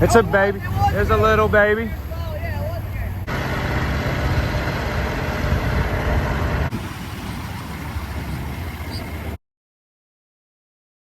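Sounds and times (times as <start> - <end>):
boat motor humming: 0.0 - 9.4
water noise: 0.0 - 9.4
wind: 0.0 - 9.4.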